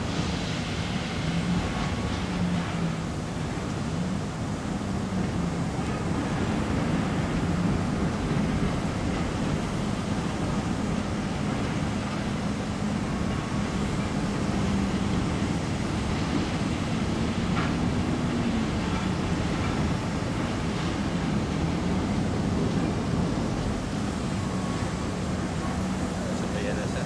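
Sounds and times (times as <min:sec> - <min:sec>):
distant diesel locomotives droning: 0:00.0 - 0:27.0.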